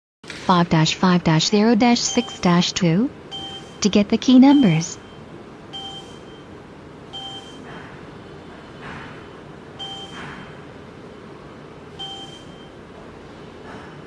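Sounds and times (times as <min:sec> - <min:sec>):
low steady hum: 0:00.3 - 0:13.8.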